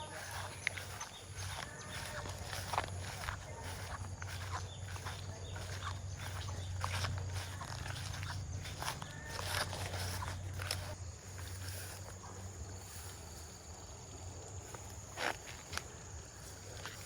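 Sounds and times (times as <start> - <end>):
rustles: 0.0 - 13.7.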